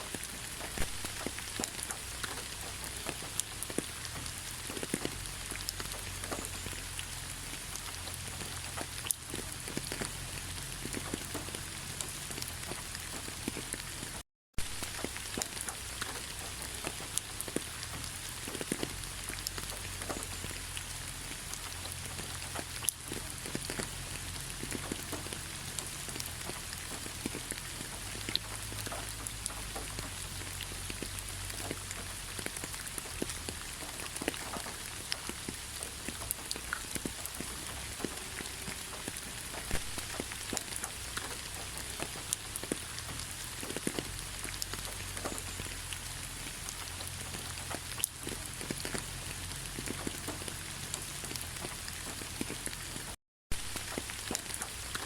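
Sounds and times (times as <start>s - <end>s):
rain drops ticking on a surface: 0.0s - 55.0s.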